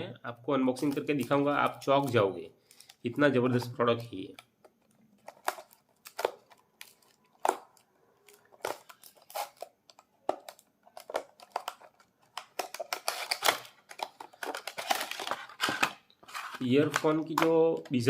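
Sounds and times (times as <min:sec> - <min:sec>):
packaging crinkling and tearing: 0:00.8 - 0:18.0.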